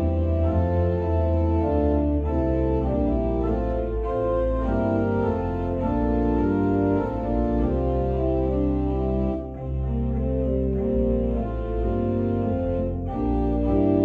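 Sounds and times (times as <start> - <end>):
organ pedal bass: 0.0 - 14.0
organ playing hymn chords: 0.0 - 14.0.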